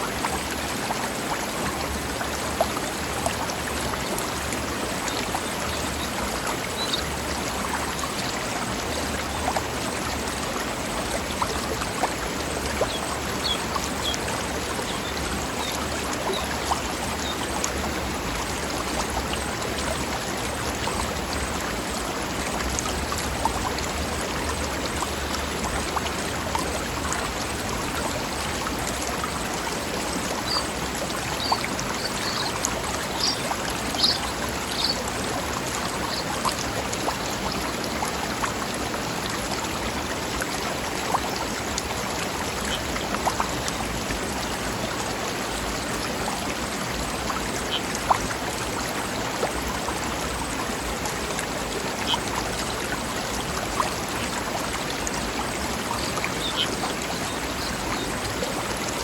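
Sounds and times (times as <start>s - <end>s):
stream flowing over rocks: 0.0s - 59.0s
water splashes: 0.0s - 59.0s.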